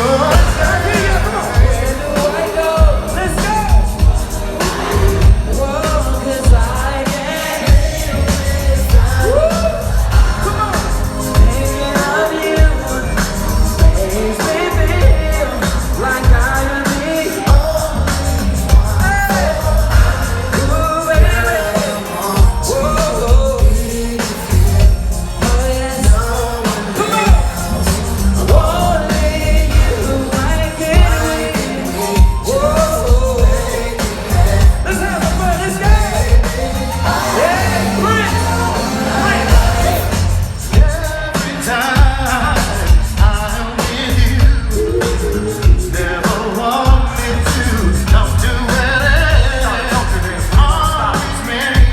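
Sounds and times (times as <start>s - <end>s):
band with heavy bass beat: 0.0s - 51.9s
person singing: 0.0s - 51.9s.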